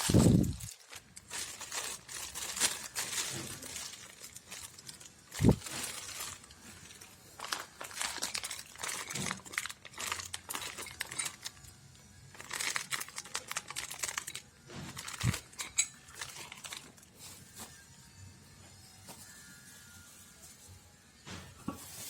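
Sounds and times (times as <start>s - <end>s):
packaging crinkling and rustling: 0.0s - 17.8s.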